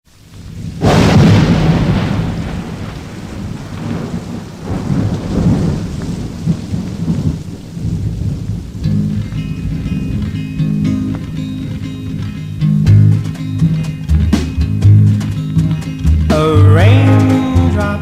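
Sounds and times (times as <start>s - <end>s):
steady rain: 0.0s - 18.0s
thunder rumbling: 0.1s - 18.0s.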